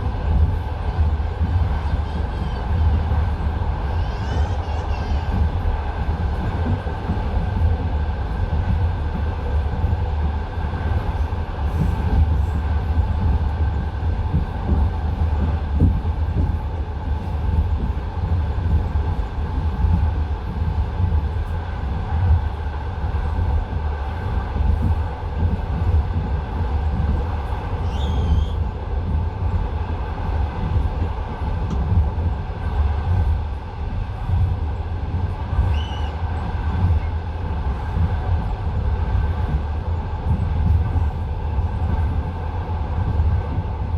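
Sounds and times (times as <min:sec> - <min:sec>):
train running gear rumble: 0:00.0 - 0:43.9.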